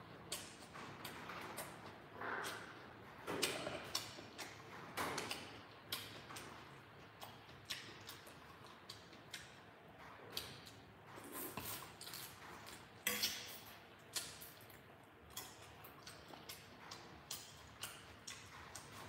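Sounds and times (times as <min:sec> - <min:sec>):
person chewing and lip smacking: 0:00.2 - 0:19.0.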